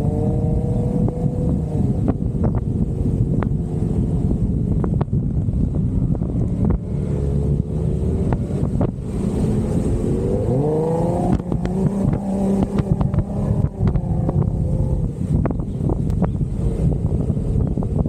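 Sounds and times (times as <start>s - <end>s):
car engine revving: 0.0s - 17.7s
wind buffeting microphone: 0.0s - 18.0s.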